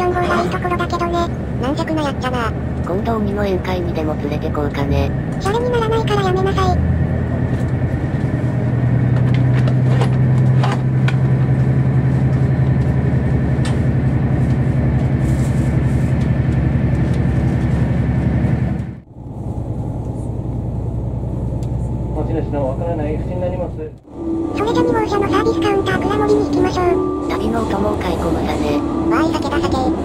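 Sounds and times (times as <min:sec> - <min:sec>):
railcar diesel engine running: 0:00.0 - 0:30.0.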